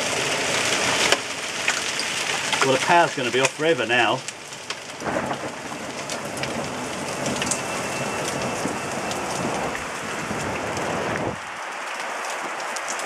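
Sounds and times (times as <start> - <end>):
hailstones pattering: 0.0 - 13.0.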